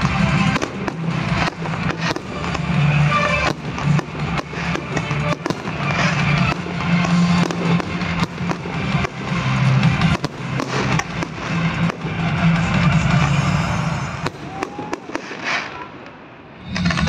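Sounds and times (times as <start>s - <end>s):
music playing: 0.0s - 16.0s
fireworks bangs and crackles: 0.0s - 17.0s.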